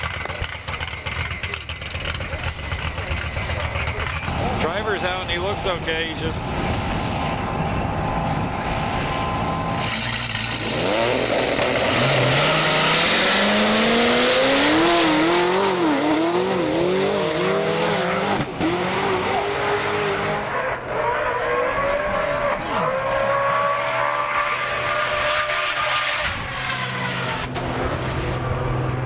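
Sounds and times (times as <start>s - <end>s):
race car engines accelerating: 0.0s - 29.0s.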